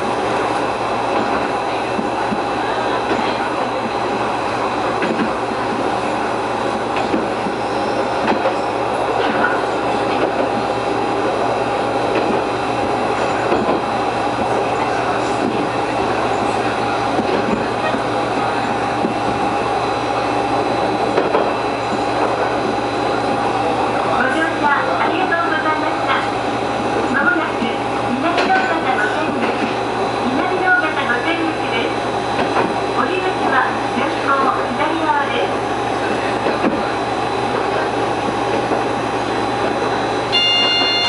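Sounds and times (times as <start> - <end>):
diesel railcar running with whine: 0.0 - 41.0
rail clicks: 0.0 - 41.0.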